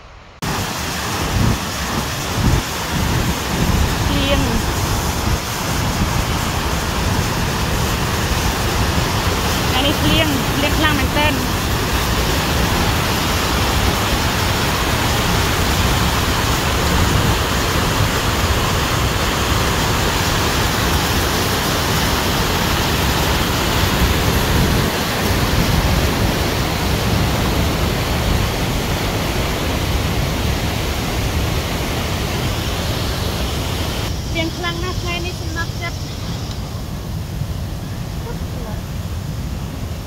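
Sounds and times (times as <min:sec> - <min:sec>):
stream rushing over rocks: 0:00.3 - 0:40.0.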